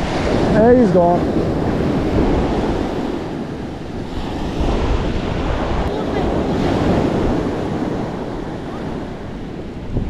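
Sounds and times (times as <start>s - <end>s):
surf breaking on a beach: 0.0s - 10.0s
wind buffeting microphone: 0.0s - 10.0s.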